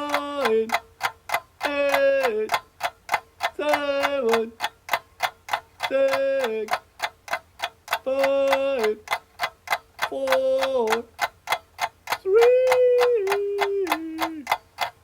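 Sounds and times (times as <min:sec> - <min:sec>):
clock-like ticking: 0:00.0 - 0:15.0.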